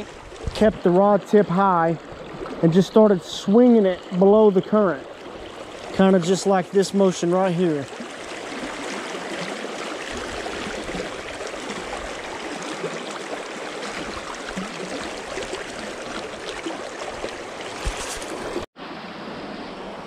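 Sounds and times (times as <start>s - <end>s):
stream rushing over stones: 0.0s - 19.4s.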